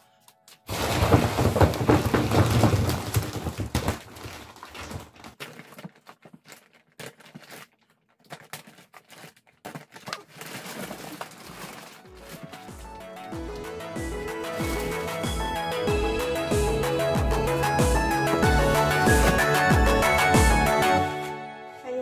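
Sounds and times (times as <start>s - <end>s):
plastic wrapping crinkling: 0.6s - 16.5s, 17.5s - 21.0s.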